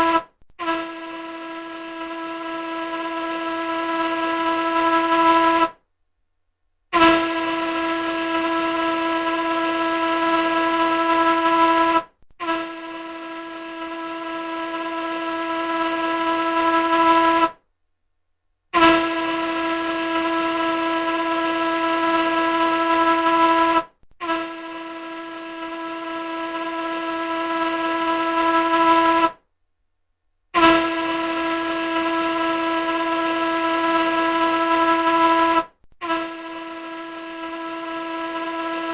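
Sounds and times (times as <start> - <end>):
ship's horn blasts: 0.0 - 5.8, 6.9 - 17.6, 18.8 - 29.4, 30.6 - 38.9.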